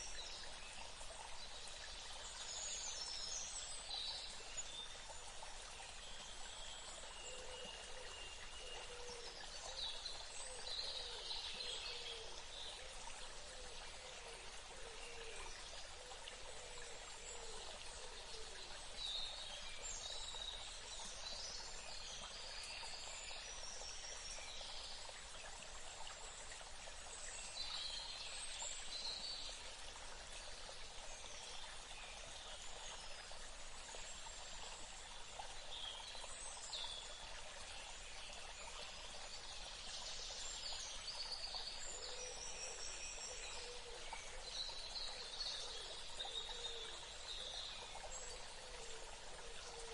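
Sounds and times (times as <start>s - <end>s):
running water hiss: 0.0s - 49.9s.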